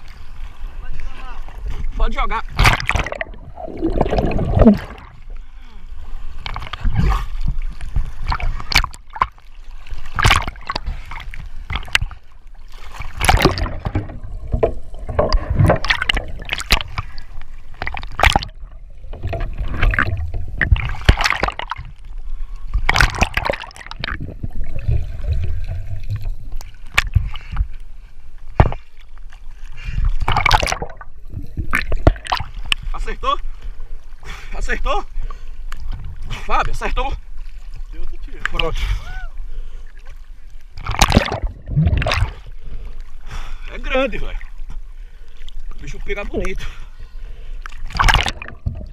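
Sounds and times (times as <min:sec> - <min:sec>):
sea water sloshing: 0:00.0 - 0:48.9.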